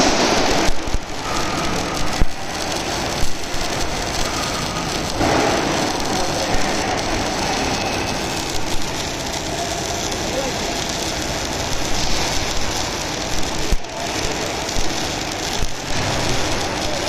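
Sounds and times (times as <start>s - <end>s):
sharp pops: 0.0s - 17.0s
welding arc crackling and hissing: 0.0s - 17.0s.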